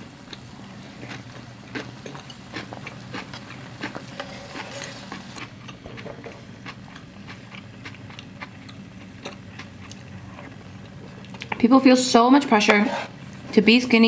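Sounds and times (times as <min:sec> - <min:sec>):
person chewing noodles: 0:00.2 - 0:11.6.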